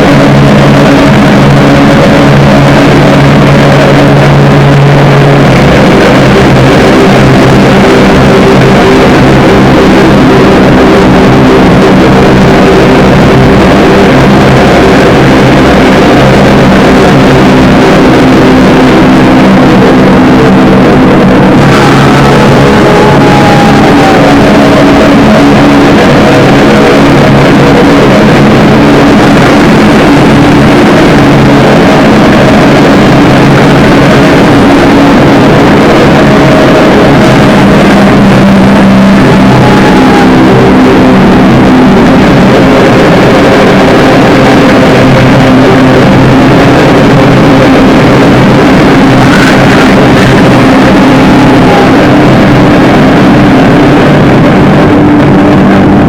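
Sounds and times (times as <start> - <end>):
distorted noise music: 0.0 - 56.0
low droning tones: 0.0 - 56.0.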